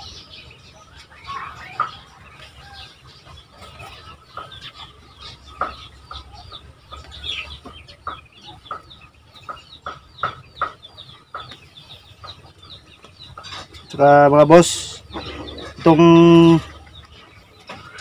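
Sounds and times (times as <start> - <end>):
poultry clucking: 0.0 - 18.0.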